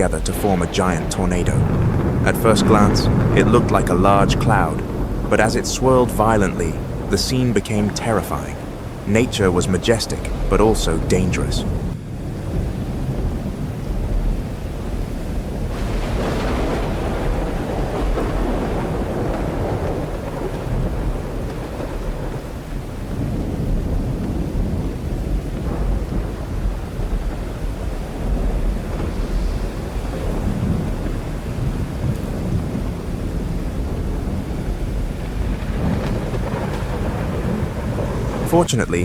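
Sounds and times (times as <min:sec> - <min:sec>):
rain: 0:00.0 - 0:39.0
wind: 0:00.0 - 0:39.0.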